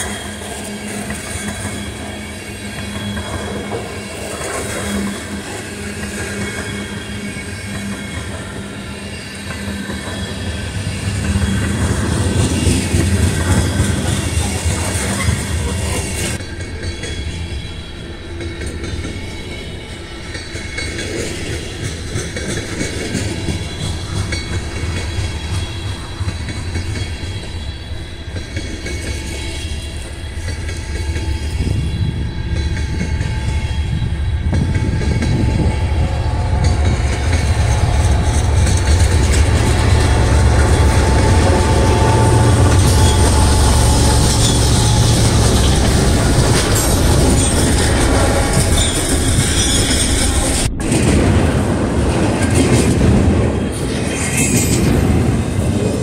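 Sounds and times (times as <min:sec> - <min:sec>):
diesel locomotive engine rumble: 0:00.0 - 0:56.0
freight train cars rolling by: 0:00.0 - 0:56.0.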